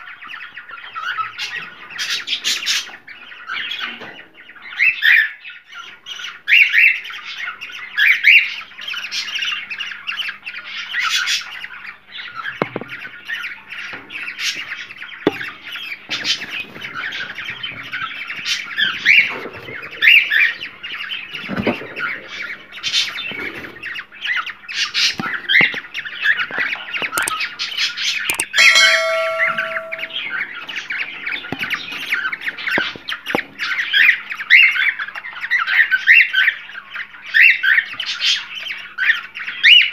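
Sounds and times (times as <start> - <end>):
cockatiels squawking and chirping: 0.0 - 30.2, 31.4 - 39.9.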